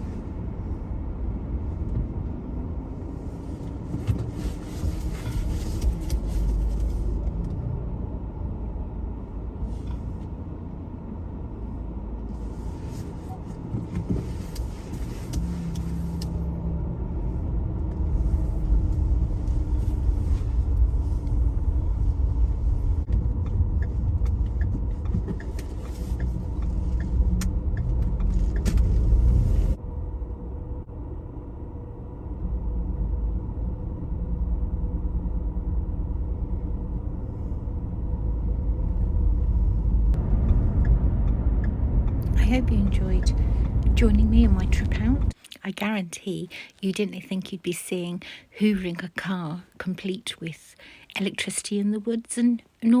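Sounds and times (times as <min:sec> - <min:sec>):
car engine and tyres rumbling: 0:00.0 - 0:53.0.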